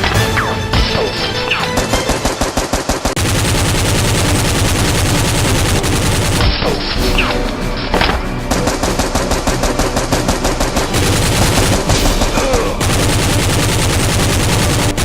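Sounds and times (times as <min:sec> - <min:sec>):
rapid automatic gunfire: 0:00.9 - 0:07.3, 0:08.5 - 0:15.0.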